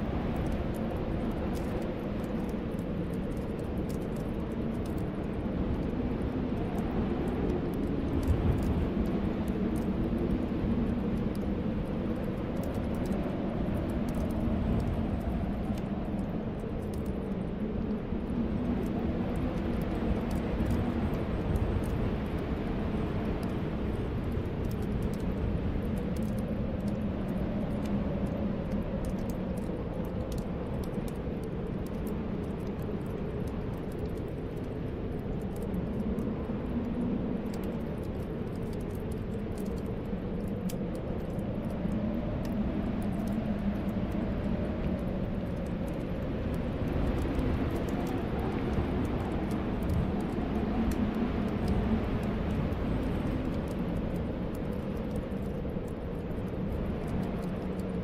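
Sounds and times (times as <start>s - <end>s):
wind howling: 0.0s - 58.0s
wood fire crackling: 0.0s - 58.0s.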